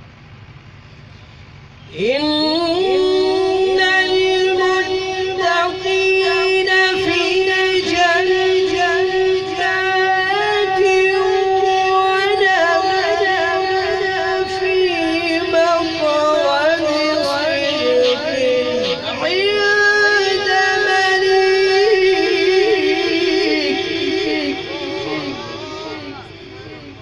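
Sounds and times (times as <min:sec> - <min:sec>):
man reciting melodically: 0:01.9 - 0:27.0.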